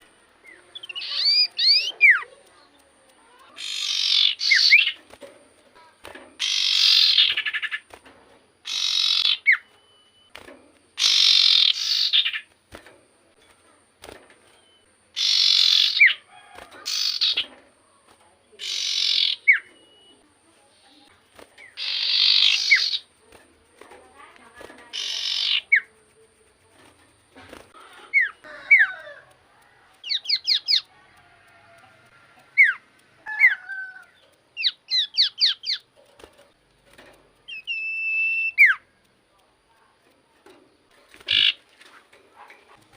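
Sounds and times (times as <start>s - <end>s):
bird buzzy chattering song: 0.0s - 12.6s, 13.2s - 17.6s, 18.4s - 29.2s, 29.9s - 30.9s, 32.4s - 36.5s, 37.3s - 39.3s, 40.5s - 42.9s.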